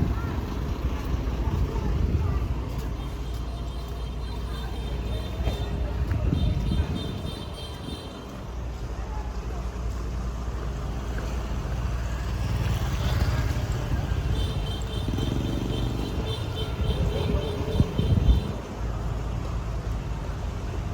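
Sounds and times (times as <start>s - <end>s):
motorbikes and cars passing: 0.0s - 20.9s.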